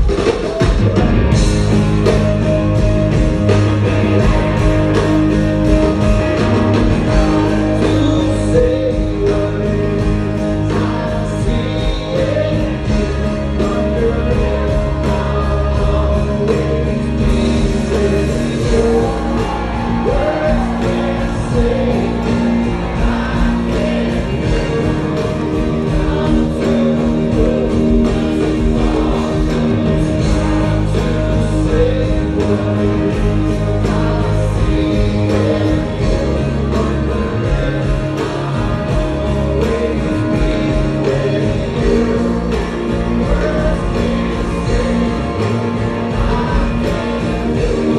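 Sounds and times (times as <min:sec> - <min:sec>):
bass: 0:00.0 - 0:47.9
drums: 0:00.0 - 0:47.9
electric guitars: 0:00.0 - 0:47.9
voices singing: 0:00.0 - 0:47.9.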